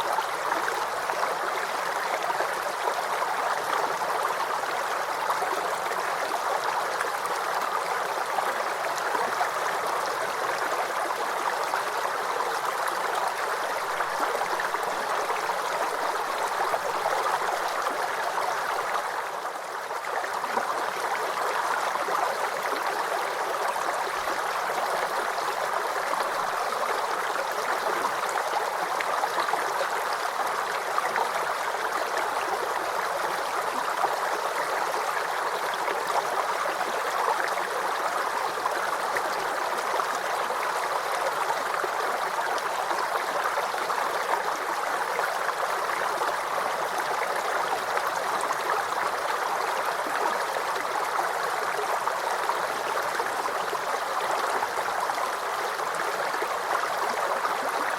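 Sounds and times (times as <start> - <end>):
brook water babbling: 0.0 - 57.9.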